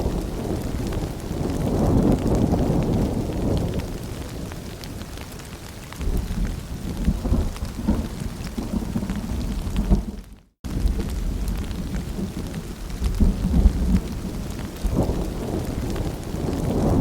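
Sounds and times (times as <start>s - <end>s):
low rolling thunder rumble: 0.0s - 4.8s, 6.0s - 17.0s
steady rain: 0.0s - 17.0s.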